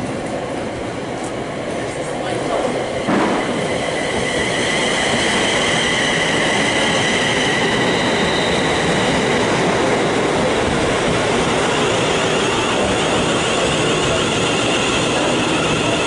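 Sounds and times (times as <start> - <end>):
wheels rushing on rail: 0.0 - 16.0.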